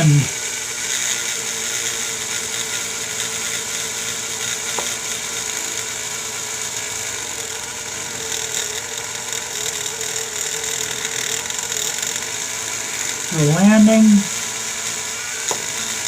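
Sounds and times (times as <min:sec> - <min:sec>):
rotary tool high whine: 0:00.0 - 0:16.0.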